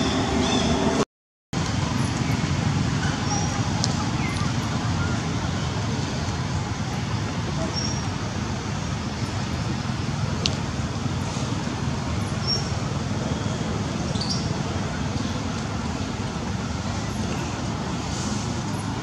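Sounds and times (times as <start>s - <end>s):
low rumbling background noise: 1.6s - 19.0s.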